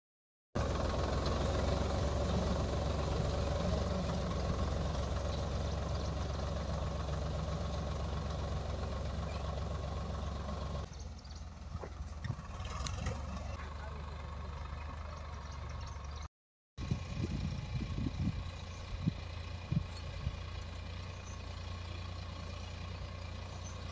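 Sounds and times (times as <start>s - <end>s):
tractor engine running: 0.6s - 23.9s.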